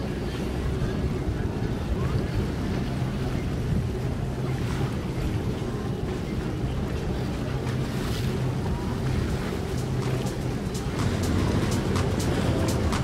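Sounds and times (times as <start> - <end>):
boat engine idling: 0.0 - 13.0
wind noise on microphone: 0.0 - 13.0.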